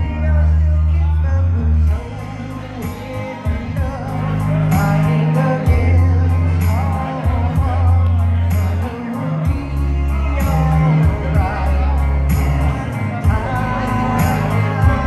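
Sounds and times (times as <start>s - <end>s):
backing track with heavy bass: 0.0s - 15.0s
hi-hat beat: 1.9s - 15.0s.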